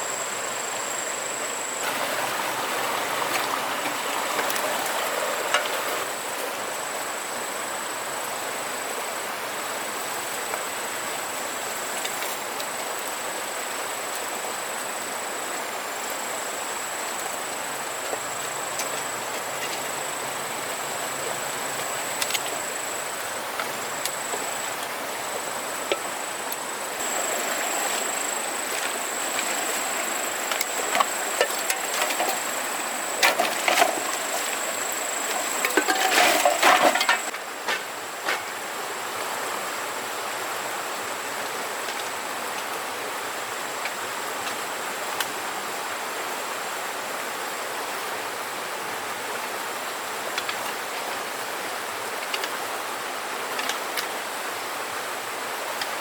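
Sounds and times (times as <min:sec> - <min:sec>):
rushing outdoor noise: 0:00.0 - 0:56.0.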